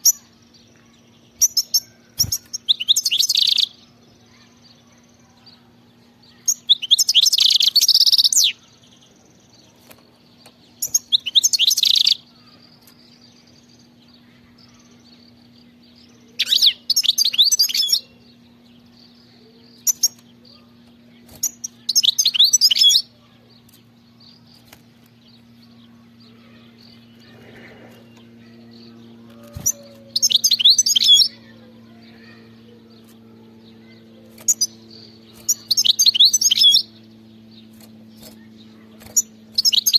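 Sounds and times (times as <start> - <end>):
faint low hum: 0.0 - 39.9
goldfinch twittering song: 0.0 - 39.9.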